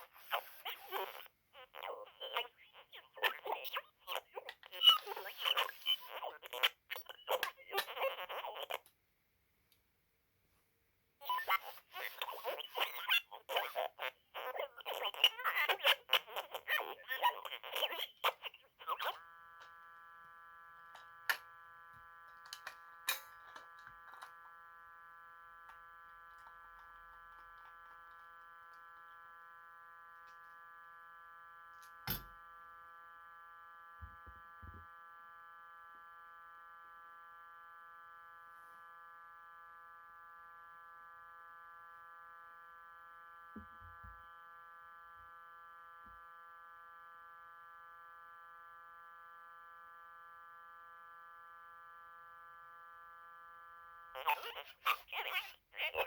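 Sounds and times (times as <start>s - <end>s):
toy electronic hum: 0.0s - 9.0s, 11.2s - 56.0s.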